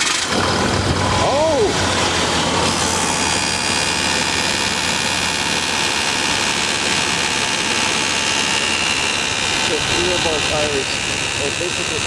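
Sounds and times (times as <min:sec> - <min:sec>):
diesel engine idling: 0:00.0 - 0:12.0
engine hiss: 0:00.0 - 0:12.0
thin whine: 0:00.0 - 0:12.0.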